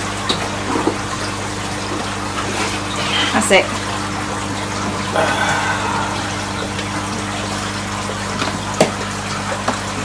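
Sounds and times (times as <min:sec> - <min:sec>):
moving water: 0:00.0 - 0:10.0
pump humming: 0:00.0 - 0:10.0.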